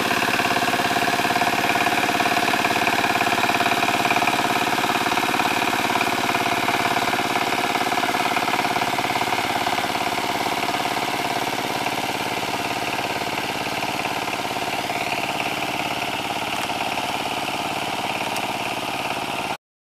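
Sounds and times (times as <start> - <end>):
diesel engine chugging: 0.0 - 19.6.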